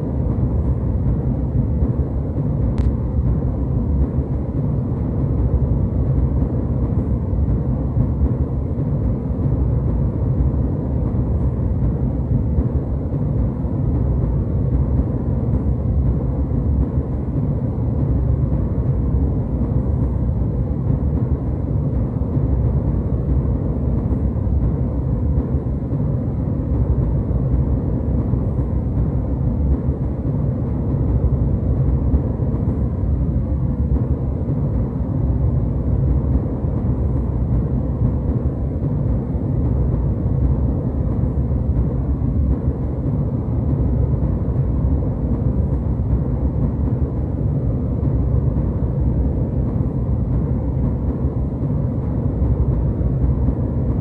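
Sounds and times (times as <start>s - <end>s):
jet airliner cabin rumble: 0.0s - 54.0s.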